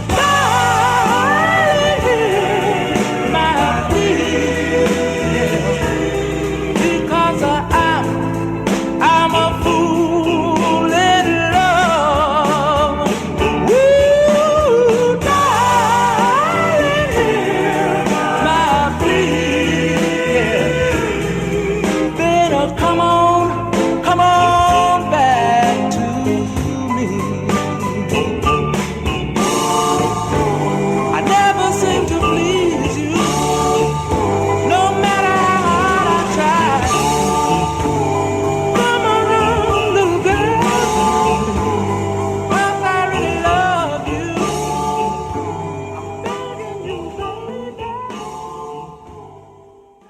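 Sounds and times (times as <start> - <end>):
lead vocalist singing with vibrato: 0.0 - 49.9
slow band accompaniment: 0.0 - 49.9
group vocal harmony: 0.0 - 50.0.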